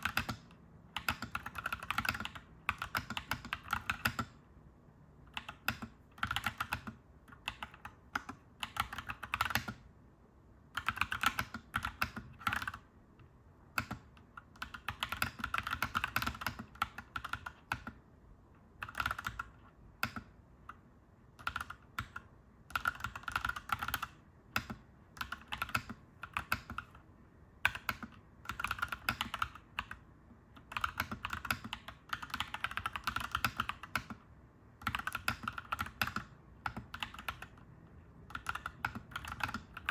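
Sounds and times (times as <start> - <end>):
mechanical keyboard typing: 0.0 - 4.4, 5.3 - 9.9, 10.7 - 12.9, 13.7 - 18.1, 18.8 - 27.0, 27.6 - 37.6, 38.2 - 39.9.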